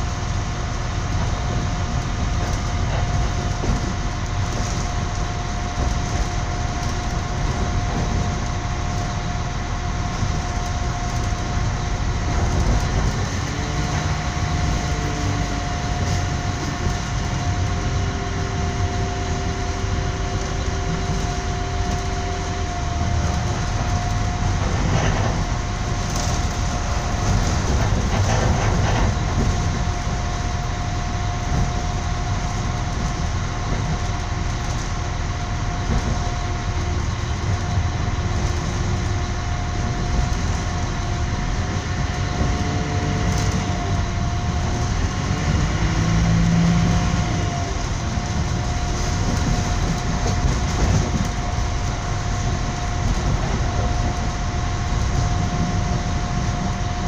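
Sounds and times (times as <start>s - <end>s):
constant high whine: 0.0s - 57.0s
train rumble inside carriage: 0.0s - 57.0s.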